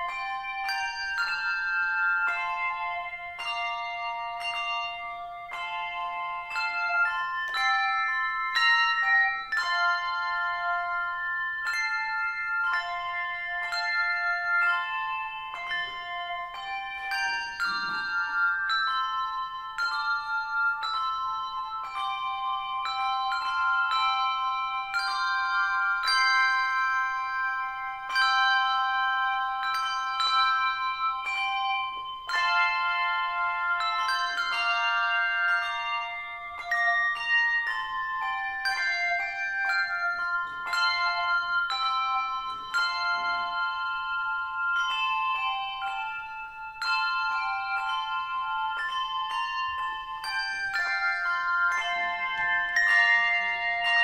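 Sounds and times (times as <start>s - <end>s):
handbell choir playing a tune: 0.0s - 54.0s.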